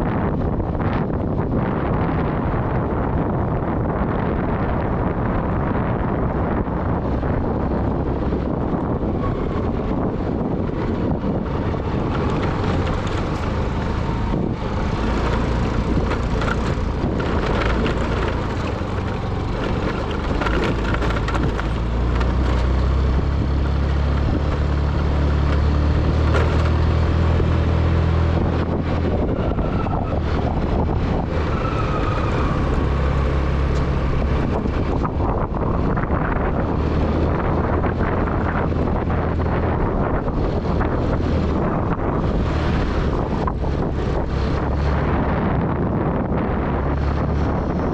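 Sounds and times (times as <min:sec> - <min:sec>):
vehicle engine running: 0:00.0 - 0:31.5, 0:32.4 - 0:47.9
wind buffeting microphone: 0:00.0 - 0:47.9.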